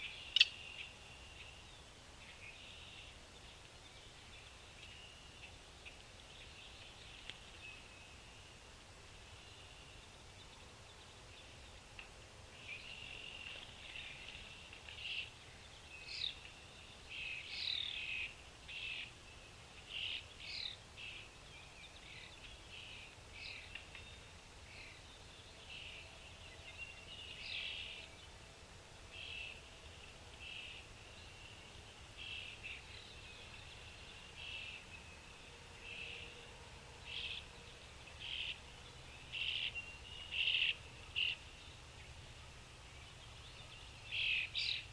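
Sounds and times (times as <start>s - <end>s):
small birds chirping: 0.0s - 28.4s, 37.0s - 44.9s.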